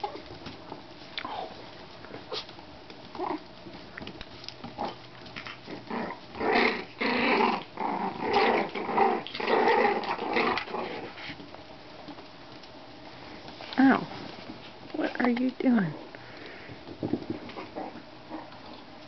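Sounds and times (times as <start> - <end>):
puppies growling: 0.0 - 14.0, 16.0 - 19.0.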